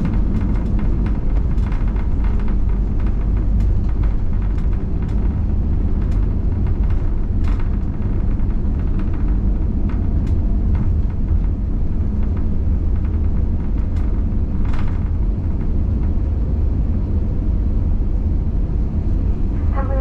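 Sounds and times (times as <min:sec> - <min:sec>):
airliner engines and wheels rumbling: 0:00.0 - 0:20.0.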